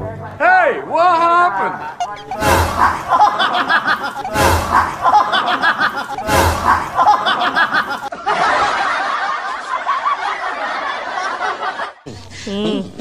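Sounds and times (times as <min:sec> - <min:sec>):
people laughing: 0:01.9 - 0:13.0.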